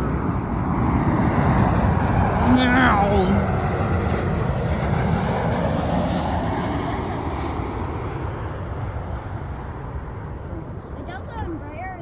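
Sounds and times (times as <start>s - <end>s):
jet engines rushing: 0.0s - 11.7s.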